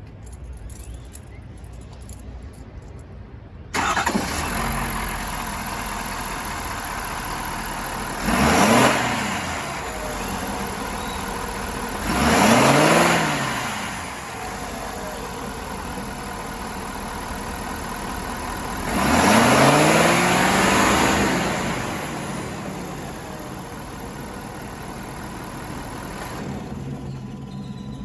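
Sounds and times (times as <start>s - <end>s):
pickup engine starting and idling: 3.7s - 28.0s
engine revving: 3.8s - 27.4s.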